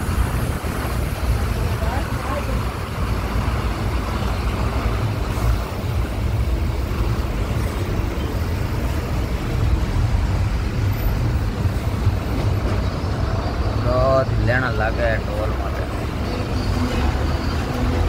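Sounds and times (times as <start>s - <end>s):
engine and tyre rumble: 0.0s - 18.0s
trucks passing close: 0.0s - 18.0s.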